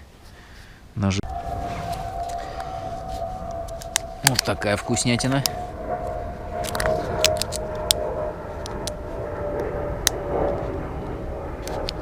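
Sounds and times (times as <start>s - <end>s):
distant engine hum: 1.2s - 12.0s
wind rumbling on microphone: 1.2s - 12.0s.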